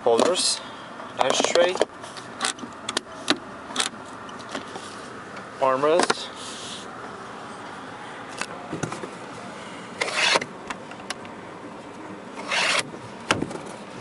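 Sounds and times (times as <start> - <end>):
idling car engine hum: 0.0 - 14.0.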